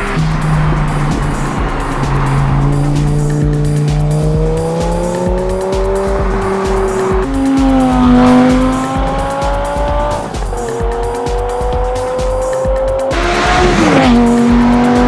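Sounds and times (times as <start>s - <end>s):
background music with beat: 0.0s - 15.0s
car engine accelerating: 0.0s - 15.0s.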